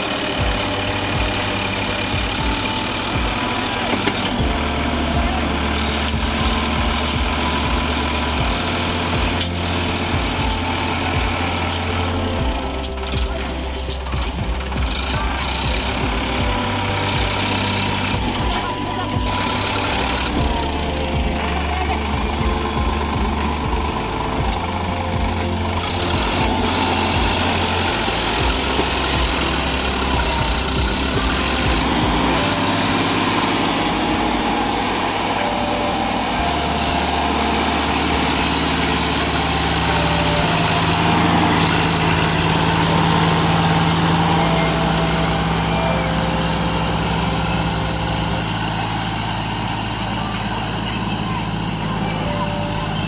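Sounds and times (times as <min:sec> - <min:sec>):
tractor diesel engine straining: 0:00.0 - 0:53.0.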